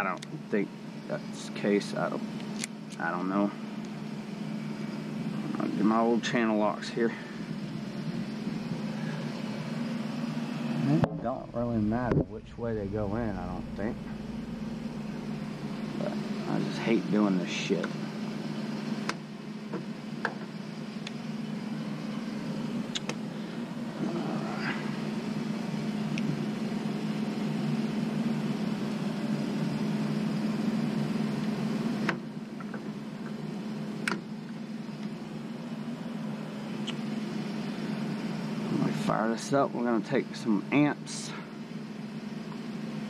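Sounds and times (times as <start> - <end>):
low machinery hum: 0.0 - 43.0.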